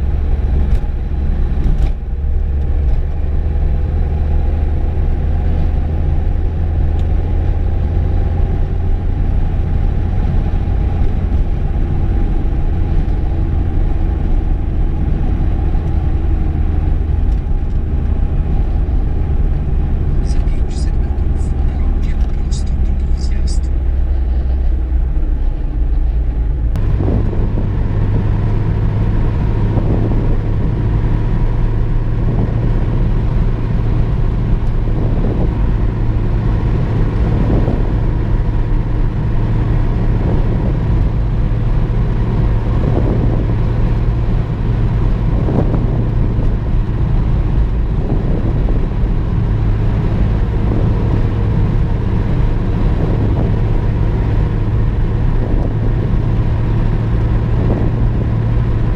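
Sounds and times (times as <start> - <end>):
car engine and tyre drone: 0.0 - 58.9.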